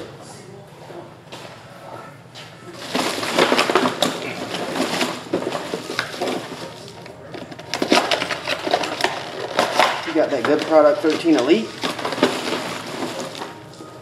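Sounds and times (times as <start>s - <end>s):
crinkling handling noise: 0.9s - 14.0s.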